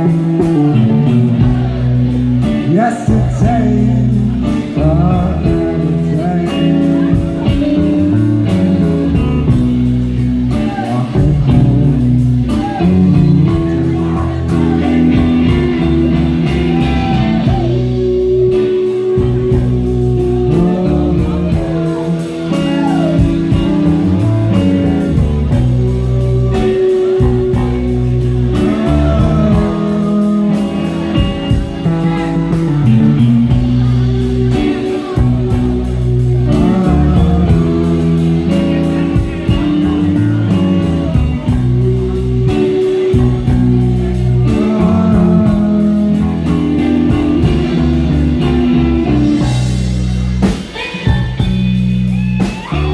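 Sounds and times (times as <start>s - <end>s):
blues band playing: 0.0s - 52.9s
guitar: 0.0s - 52.9s.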